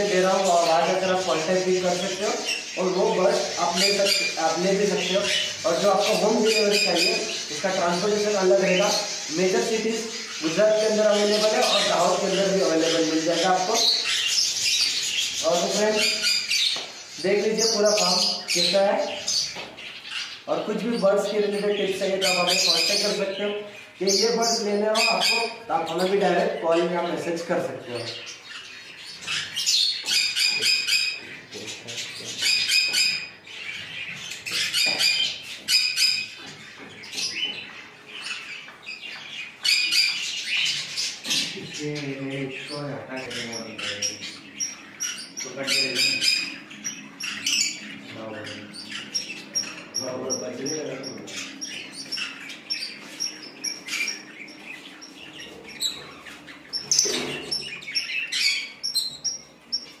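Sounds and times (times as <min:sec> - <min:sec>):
parrots squawking and chirping: 0:00.0 - 1:00.0.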